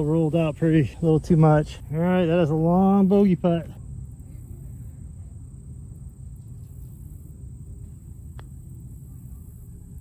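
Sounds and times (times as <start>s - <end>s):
low outdoor background rumble: 0.0s - 10.0s.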